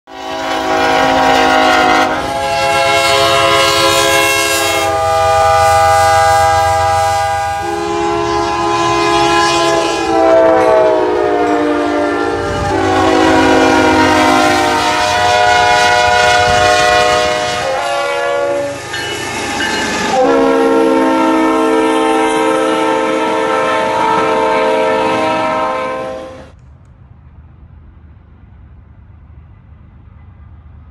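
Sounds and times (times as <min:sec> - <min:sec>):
locomotive air horn blasts: 0:00.1 - 0:19.0, 0:19.9 - 0:26.6
low train rumble: 0:00.1 - 0:30.9.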